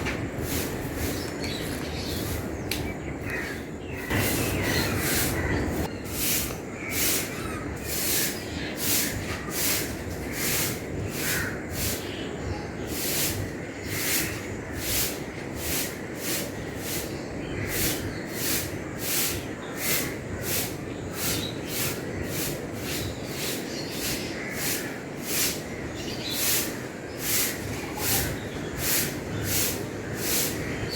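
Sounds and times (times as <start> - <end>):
broom sweeping ground: 0.0 - 30.9.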